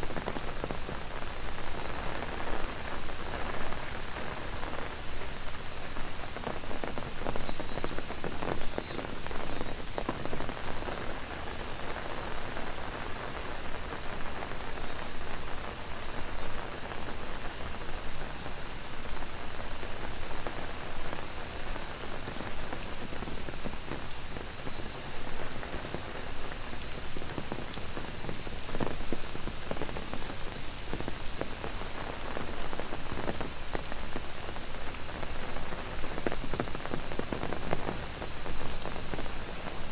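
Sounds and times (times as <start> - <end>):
cicada chorus: 0.0 - 39.9.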